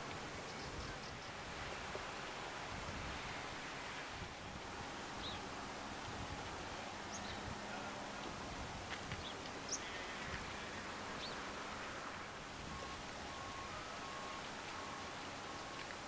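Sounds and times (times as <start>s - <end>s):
outdoor ambient noise: 0.0s - 16.0s.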